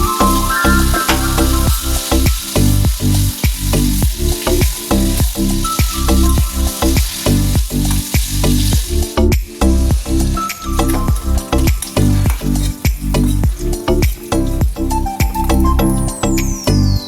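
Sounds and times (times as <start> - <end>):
stirring in a pan: 0.0 - 16.1
background music with beat: 0.0 - 17.0
food sizzling in hot oil: 0.0 - 17.0.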